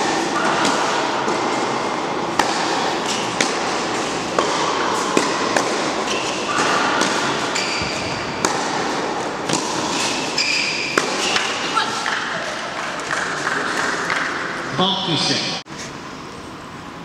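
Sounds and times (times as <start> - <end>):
tennis ball bouncing on court: 0.0 - 14.5
tennis ball hitting rackets: 0.0 - 14.5.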